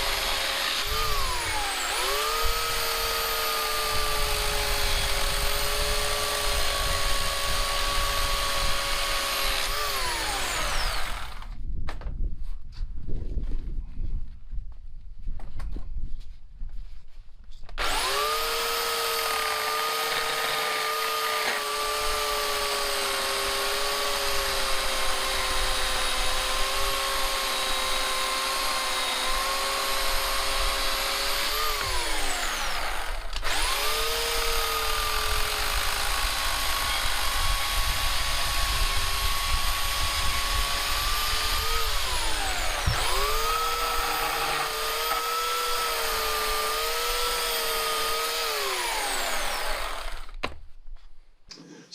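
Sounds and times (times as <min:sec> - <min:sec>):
electric chainsaw motor whining: 0:00.0 - 0:11.6, 0:17.8 - 0:50.5.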